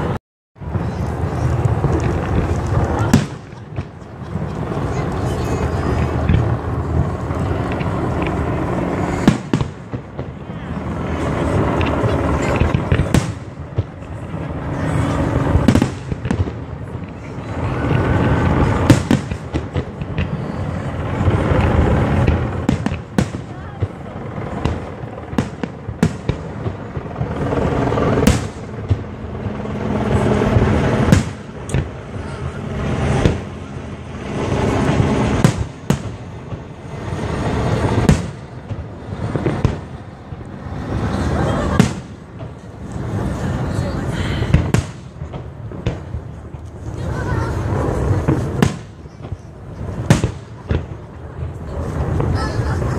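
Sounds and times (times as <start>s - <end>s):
firework bangs and crackling: 0.0s - 52.9s.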